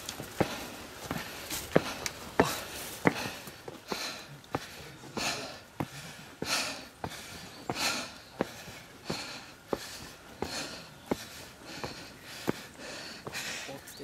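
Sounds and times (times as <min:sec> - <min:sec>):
footsteps on stone stairs: 0:00.0 - 0:14.0
heavy breathing: 0:00.2 - 0:14.0.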